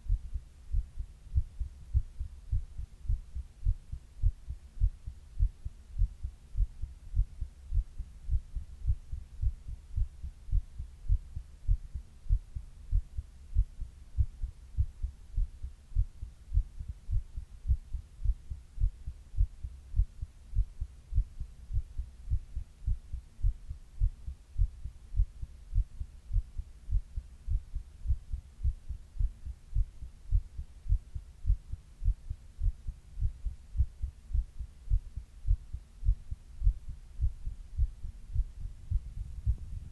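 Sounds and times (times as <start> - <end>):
faint low hum: 0.0 - 39.9
heartbeat thumps: 0.0 - 39.9.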